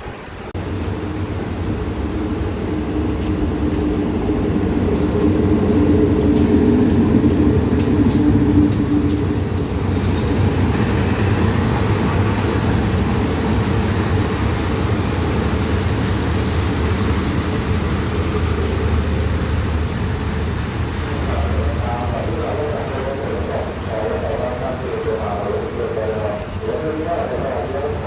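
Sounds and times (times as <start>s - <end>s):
diesel train passing: 0.0s - 28.0s.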